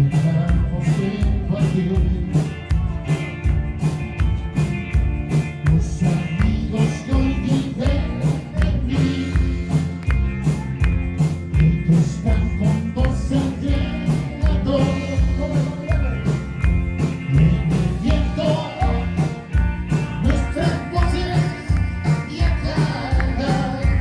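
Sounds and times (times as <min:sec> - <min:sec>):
drum kit steady beat: 0:00.0 - 0:24.0
rock band music: 0:00.0 - 0:24.0.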